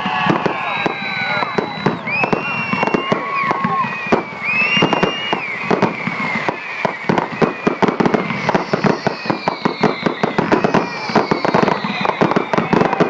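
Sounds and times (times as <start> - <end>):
fireworks bangs and crackles: 0.0 - 13.0
fireworks whistling: 0.0 - 13.0
long falling whistle: 0.0 - 13.0.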